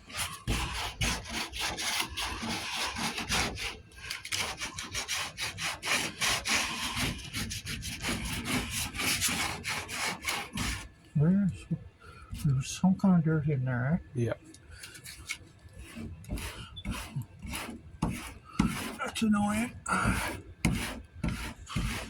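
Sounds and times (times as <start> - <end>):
sandpaper rasping back and forth: 0.0 - 10.9, 15.1 - 22.0.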